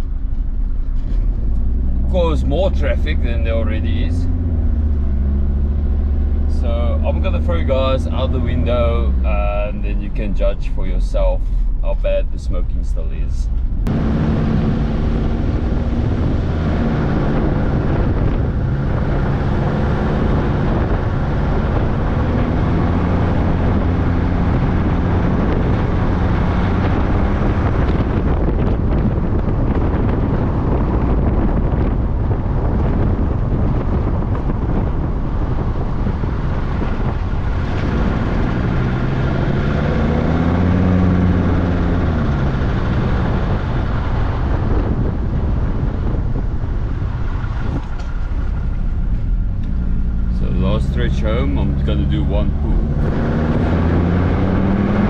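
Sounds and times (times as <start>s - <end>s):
diesel engine running: 0.0s - 55.0s
wind rushing over microphone: 0.0s - 55.0s.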